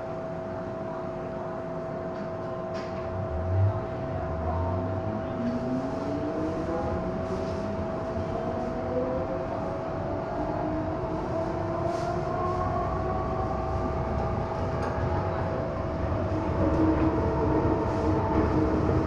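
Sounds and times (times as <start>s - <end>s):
low train running rumble: 0.0s - 19.0s
train traction motors whining: 2.8s - 19.0s.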